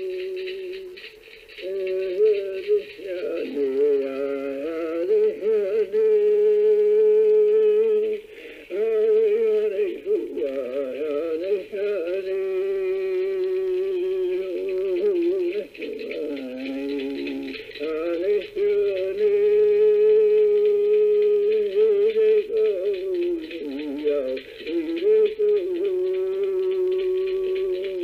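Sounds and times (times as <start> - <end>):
man singing solo: 0.0 - 28.0.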